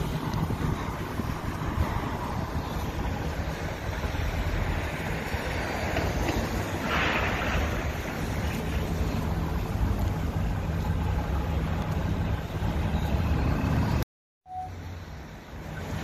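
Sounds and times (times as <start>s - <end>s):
wind buffeting microphone: 0.0s - 14.0s
cars driving past: 0.0s - 16.0s.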